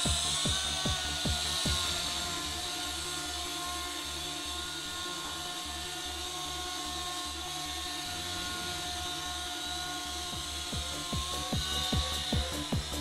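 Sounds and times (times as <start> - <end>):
toy helicopter rotors whining: 0.0 - 13.0.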